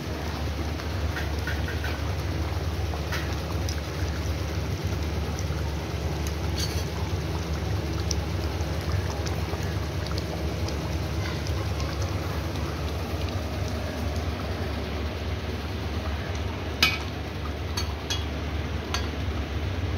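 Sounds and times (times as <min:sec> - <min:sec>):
curry bubbling and sizzling: 0:00.0 - 0:19.9.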